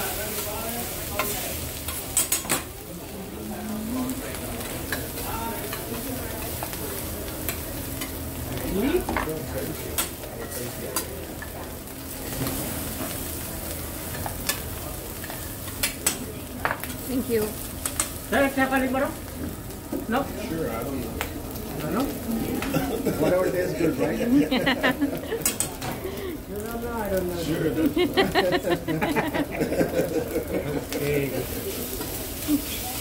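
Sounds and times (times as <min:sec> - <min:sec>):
food sizzling on a griddle: 0:00.0 - 0:33.0.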